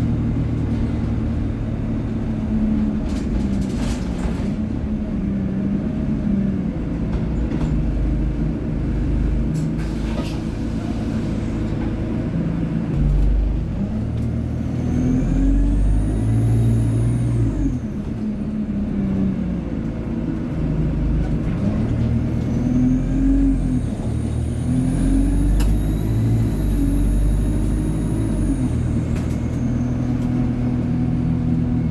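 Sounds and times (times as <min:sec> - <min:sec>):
bus engine accelerating through gears: 0:00.0 - 0:31.9.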